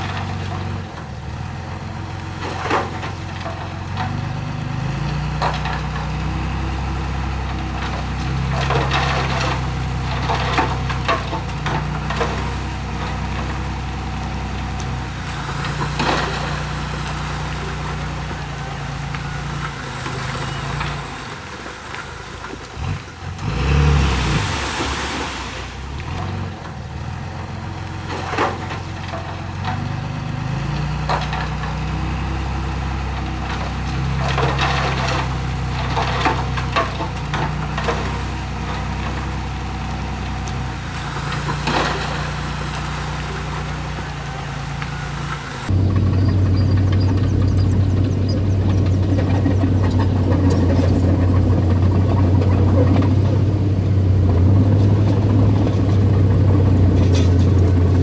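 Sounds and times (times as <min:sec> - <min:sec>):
bulldozer diesel engine: 0:00.0 - 0:58.0
soil crunching and knocking: 0:00.0 - 0:58.0.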